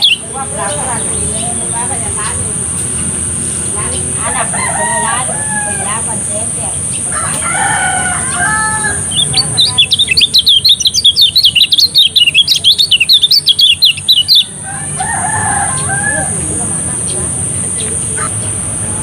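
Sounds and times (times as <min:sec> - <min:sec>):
lower-pitched bird call: 0:00.0 - 0:02.8, 0:03.5 - 0:18.8
bird twittering song: 0:00.0 - 0:19.0.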